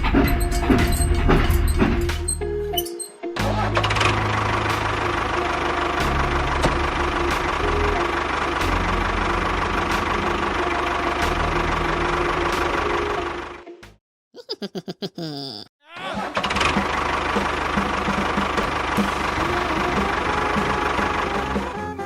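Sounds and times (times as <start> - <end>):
tractor engine running: 0.0 - 2.9, 3.6 - 13.7, 16.2 - 21.8.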